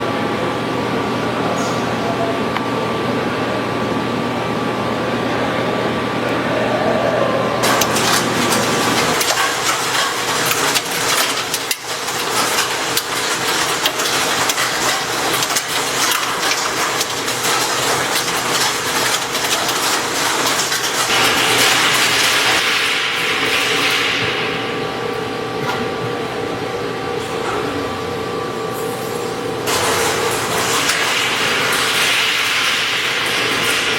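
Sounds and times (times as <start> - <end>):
machine hum: 0.0 - 33.9.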